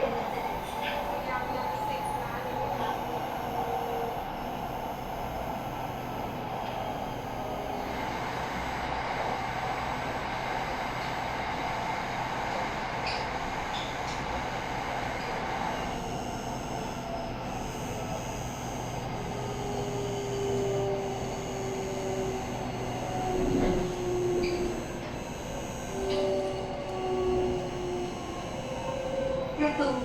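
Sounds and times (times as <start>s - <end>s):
train humming whine: 0.0s - 30.0s.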